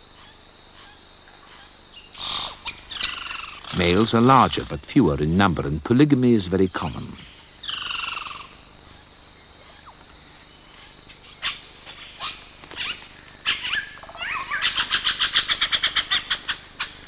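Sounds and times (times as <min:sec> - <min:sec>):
high insect buzz: 0:00.0 - 0:17.0
bird calling: 0:00.2 - 0:05.0, 0:06.3 - 0:17.0.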